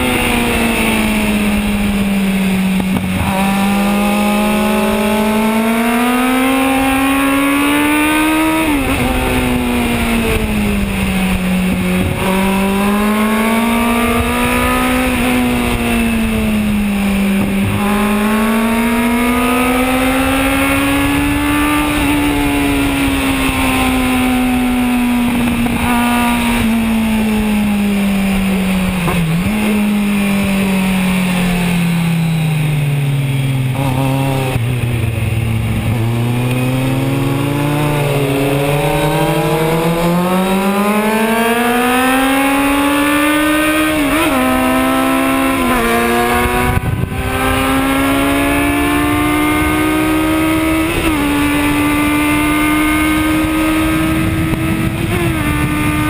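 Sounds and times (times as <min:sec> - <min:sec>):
motorcycle engine revving: 0:00.0 - 0:56.0
wind rush: 0:06.6 - 0:31.2, 0:33.7 - 0:56.0.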